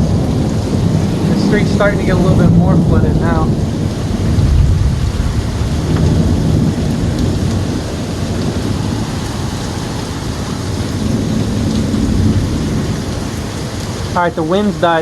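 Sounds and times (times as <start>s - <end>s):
deep thunder rumble: 0.0s - 15.0s
heavy rain pouring: 0.0s - 15.0s
wind gusting: 0.0s - 15.0s.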